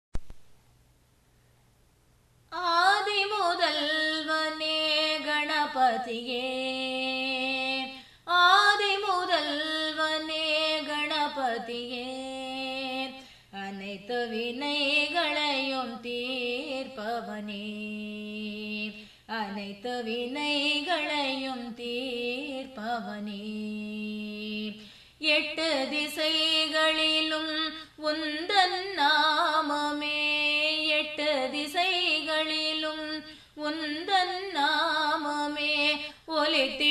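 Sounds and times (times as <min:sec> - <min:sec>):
woman singing devotional song: 0:02.5 - 0:36.9.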